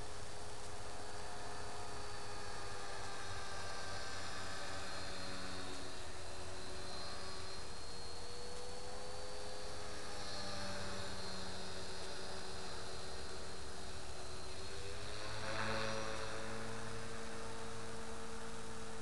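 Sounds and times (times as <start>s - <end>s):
low hum: 0.0s - 19.0s
rc helicopter whine: 0.0s - 19.0s.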